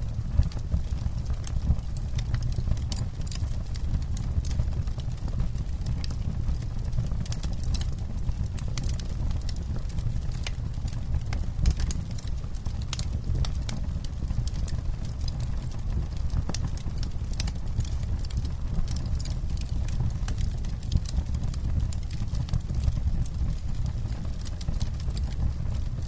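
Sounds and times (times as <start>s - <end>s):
campfire crackling: 0.1s - 26.0s.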